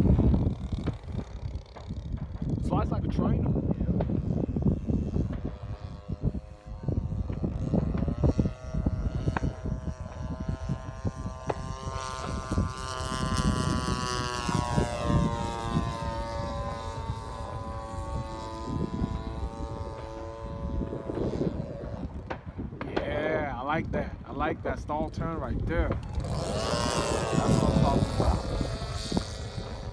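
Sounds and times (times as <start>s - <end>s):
model airplane engine droning: 0.0s - 29.9s
wind buffeting microphone: 0.0s - 29.9s.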